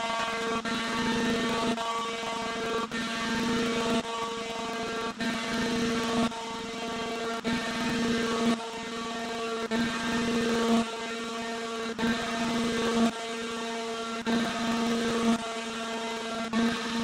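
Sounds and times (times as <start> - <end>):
router cutting wood: 0.1 - 17.0.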